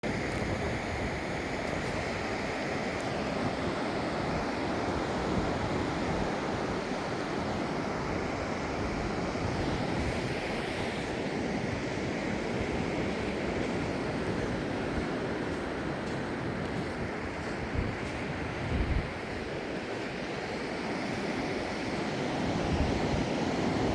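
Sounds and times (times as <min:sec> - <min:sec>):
ocean surf washing in: 0:00.0 - 0:23.9
wind: 0:00.0 - 0:23.9.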